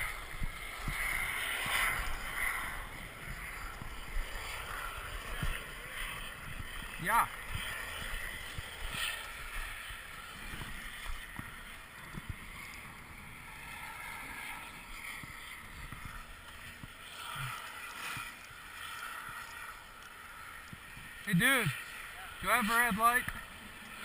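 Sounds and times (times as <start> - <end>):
skis scraping over snow: 0.0 - 24.0.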